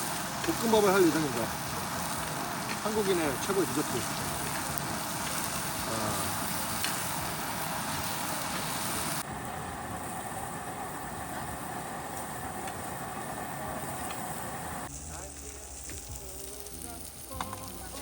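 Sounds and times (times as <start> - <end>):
food sizzling on camp stove: 0.0 - 18.0.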